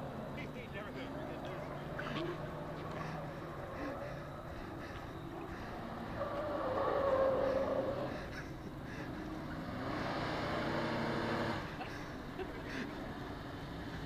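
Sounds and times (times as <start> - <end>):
car engines running hard: 0.0 - 14.0.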